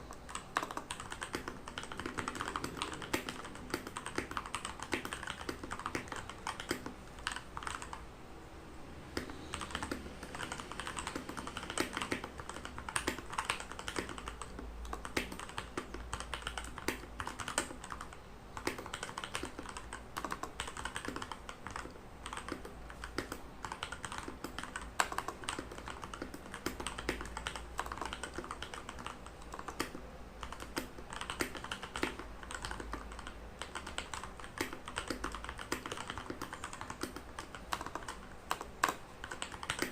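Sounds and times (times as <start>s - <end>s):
mechanical keyboard typing: 0.0s - 8.1s, 9.2s - 39.9s.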